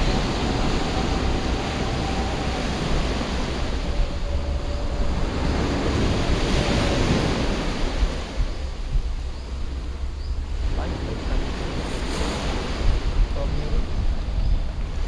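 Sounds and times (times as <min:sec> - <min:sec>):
sea surf on pebbles: 0:00.0 - 0:15.0
wind rumbling on microphone: 0:00.0 - 0:15.0.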